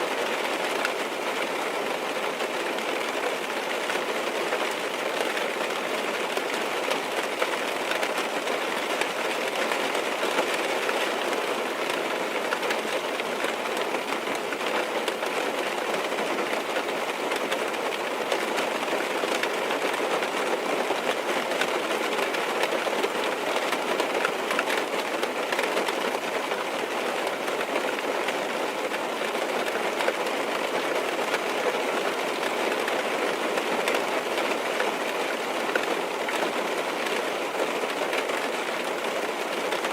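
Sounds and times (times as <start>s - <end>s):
rain on car roof and windows: 0.0s - 39.9s.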